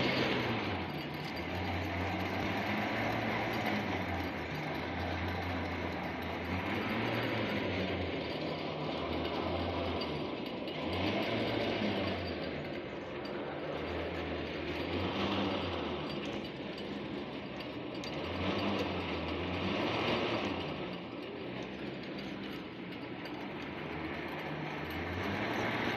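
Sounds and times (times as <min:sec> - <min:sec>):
drilling rig mechanical clatter: 0:00.0 - 0:25.9.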